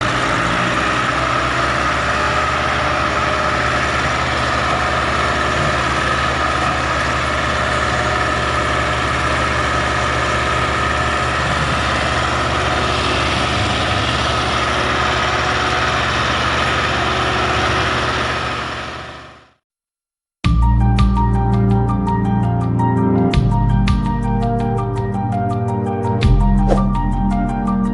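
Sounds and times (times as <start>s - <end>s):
tractor diesel engine running: 0.0s - 19.6s, 23.4s - 27.9s.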